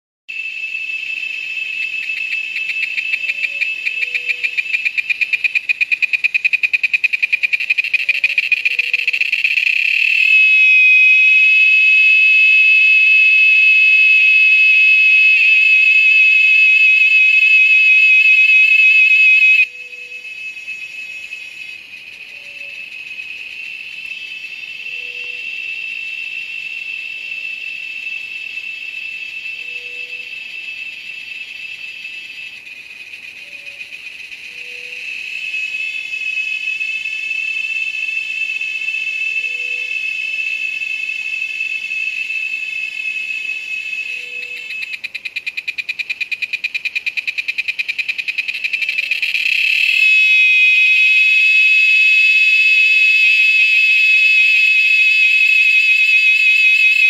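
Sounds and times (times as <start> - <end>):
cicada buzzing: 0.3 - 57.0.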